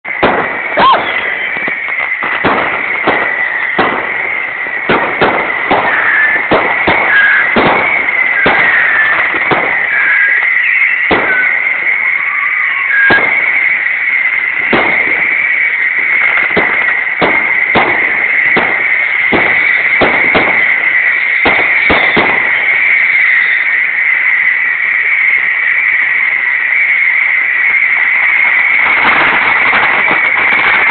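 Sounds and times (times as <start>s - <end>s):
firework whistles: 0.0s - 30.9s
fireworks bangs: 0.0s - 30.9s.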